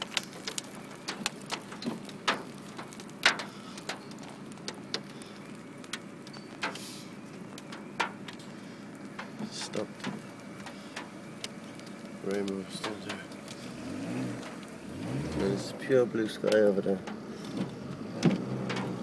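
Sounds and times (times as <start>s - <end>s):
hail tapping on car roof: 0.0s - 19.0s.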